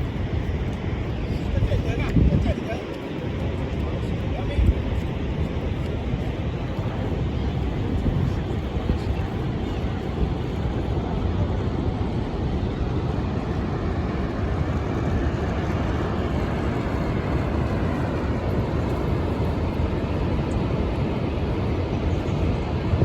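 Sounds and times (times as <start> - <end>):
waterfall roaring: 0.0 - 23.0
wind: 0.0 - 23.0.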